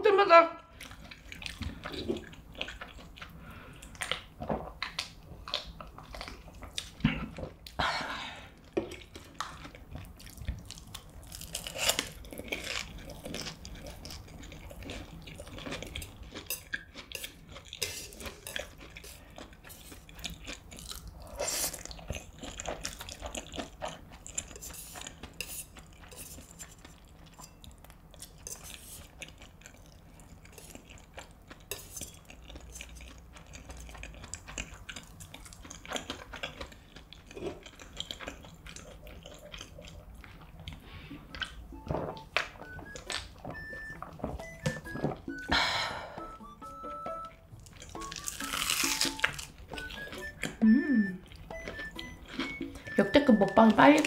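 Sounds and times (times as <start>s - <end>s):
chewing and slurping noodles: 0.8s - 7.7s, 8.5s - 54.0s.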